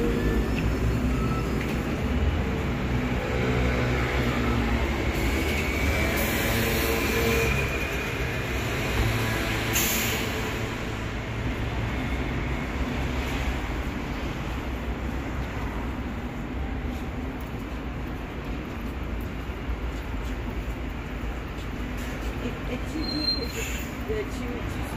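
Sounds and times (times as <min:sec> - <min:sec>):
traffic engines rumbling: 0:00.0 - 0:24.9.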